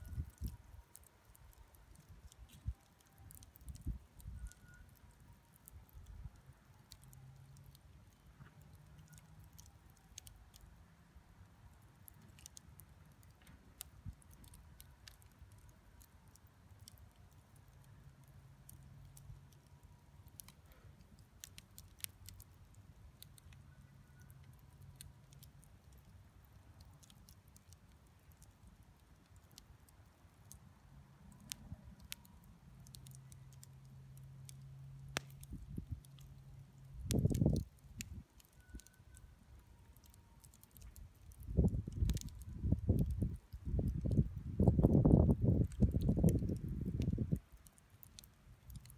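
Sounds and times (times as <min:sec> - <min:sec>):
campfire crackling: 0:00.0 - 0:48.9
sharp pops and ticks: 0:00.0 - 0:48.9.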